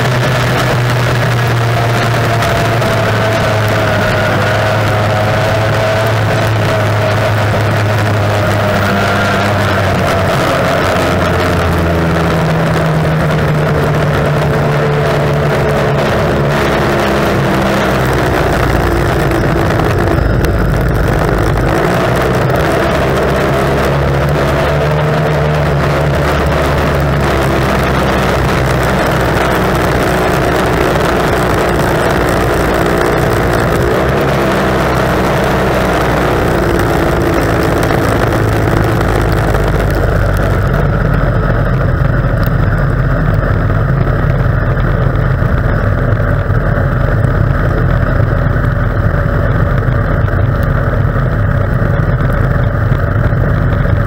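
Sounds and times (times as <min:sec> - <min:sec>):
outboard engine at high revs: 0:00.0 - 0:54.0.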